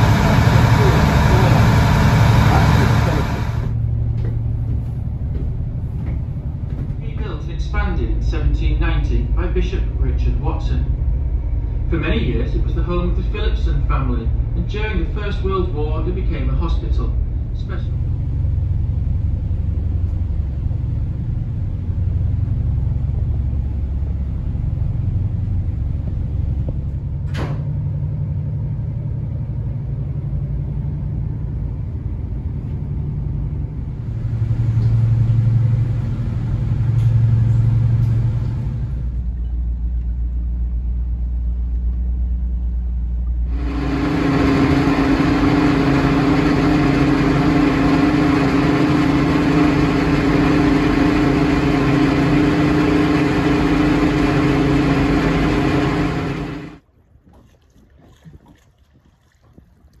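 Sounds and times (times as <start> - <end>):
steady hum: 0.0 - 56.8
boat diesel engine rumble: 0.0 - 57.2.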